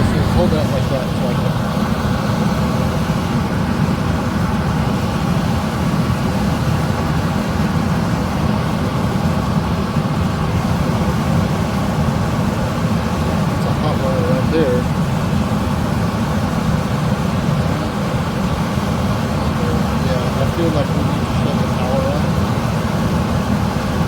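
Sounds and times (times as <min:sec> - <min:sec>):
furnace blower running: 0:00.0 - 0:24.0.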